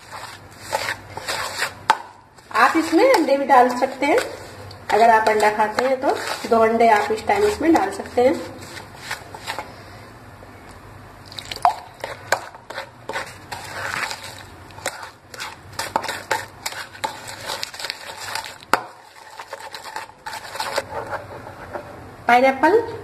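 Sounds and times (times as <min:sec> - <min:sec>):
spoon stirring batter in bowl: 0:00.0 - 0:09.9, 0:11.3 - 0:21.9.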